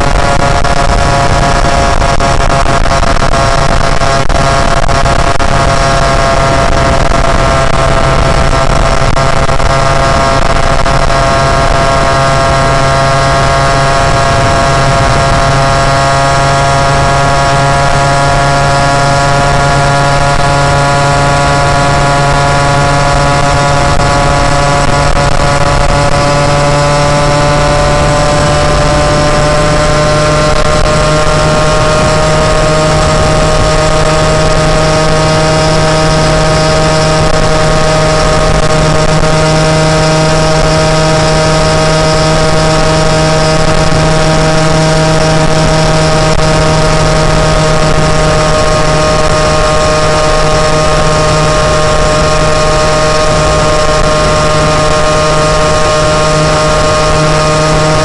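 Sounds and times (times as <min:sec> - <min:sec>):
moped engine running: 0:00.0 - 0:58.0.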